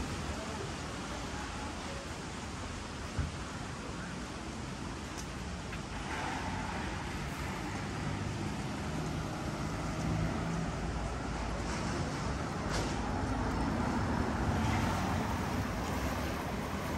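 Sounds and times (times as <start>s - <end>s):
background traffic noise: 0.0s - 16.9s
car engines on road: 2.3s - 16.9s.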